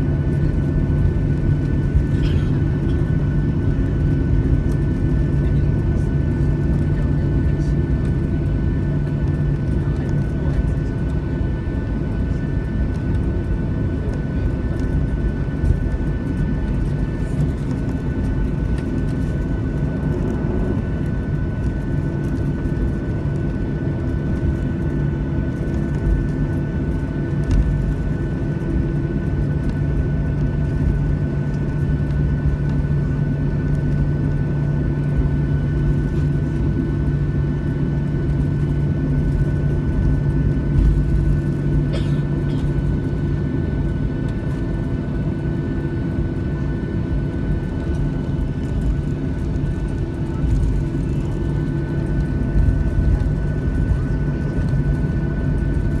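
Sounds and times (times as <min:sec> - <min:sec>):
airplane cabin hum: 0:00.0 - 0:56.0.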